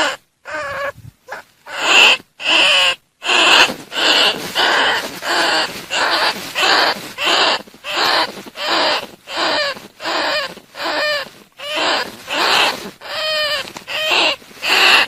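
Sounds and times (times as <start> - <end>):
rat raspy squeaks: 0.0 - 15.0.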